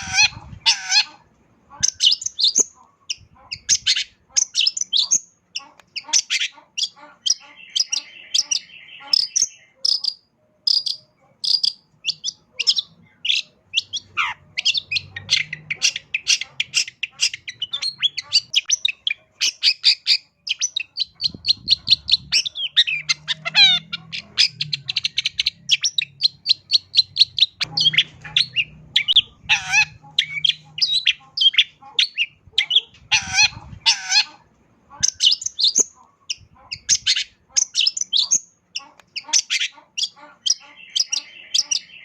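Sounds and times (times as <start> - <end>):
bird singing rapid varied song: 1.8 - 33.9, 35.0 - 42.0.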